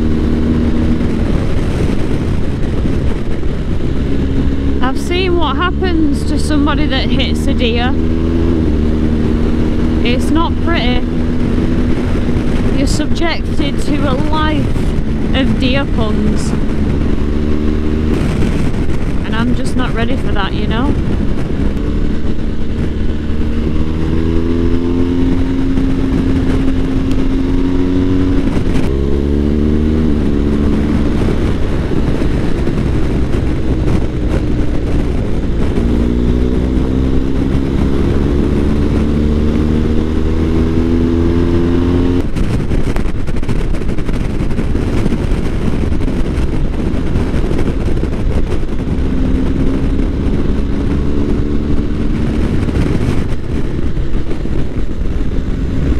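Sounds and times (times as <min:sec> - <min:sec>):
motorcycle engine accelerating: 0:00.0 - 0:55.9
wind rush: 0:00.0 - 0:55.9.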